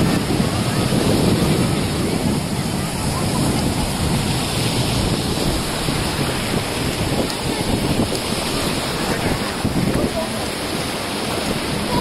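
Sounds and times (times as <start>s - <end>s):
indistinct crowd voices: 0.0s - 12.0s
small waves washing on beach: 0.0s - 12.0s
wind buffeting microphone: 0.0s - 12.0s.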